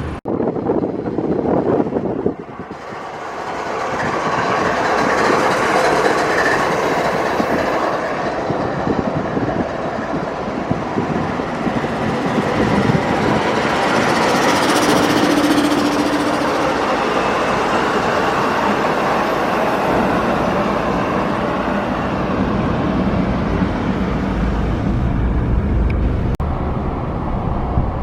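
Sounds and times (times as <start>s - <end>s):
train rolling past: 0.0s - 28.0s.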